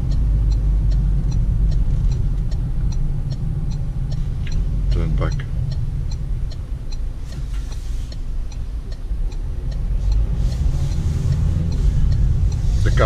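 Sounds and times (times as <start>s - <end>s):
car engine rumble: 0.0s - 13.0s
turn signal ticking: 0.0s - 13.0s.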